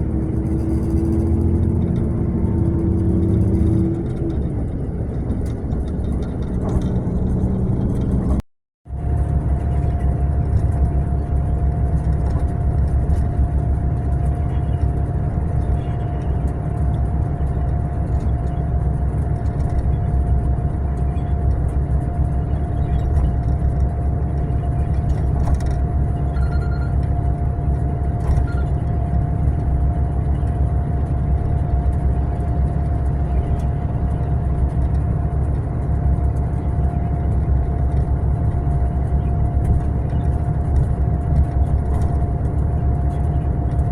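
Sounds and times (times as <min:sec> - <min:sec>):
coach engine rumble: 0:00.0 - 0:43.9.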